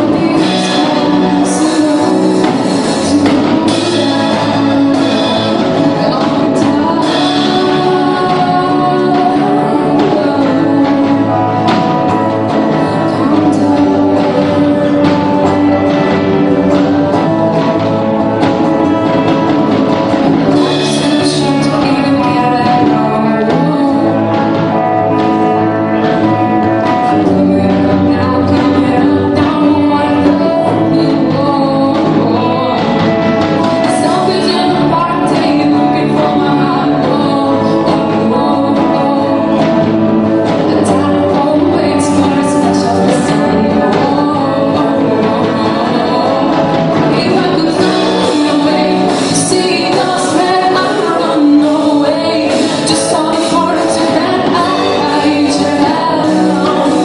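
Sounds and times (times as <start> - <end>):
instrumental backing: 0.0 - 57.0
person singing: 0.0 - 57.0.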